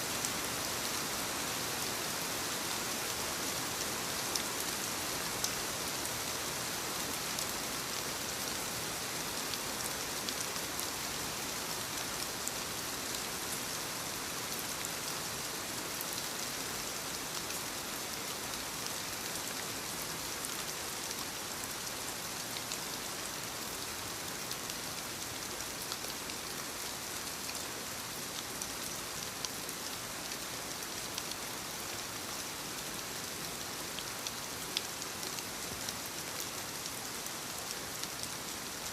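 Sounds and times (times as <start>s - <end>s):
steady rain: 0.0s - 38.9s
rain drops pattering: 0.1s - 38.9s.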